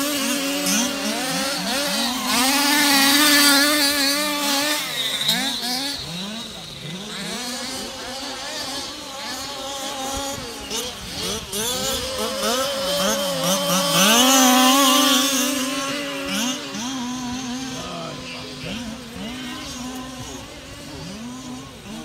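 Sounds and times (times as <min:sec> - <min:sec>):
rc car engines revving: 0:00.0 - 0:22.0.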